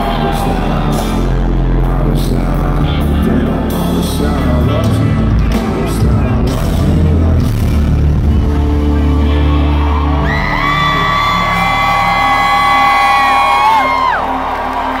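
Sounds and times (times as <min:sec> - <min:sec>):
heavy bass: 0:00.0 - 0:15.0
live rock music: 0:00.0 - 0:15.0.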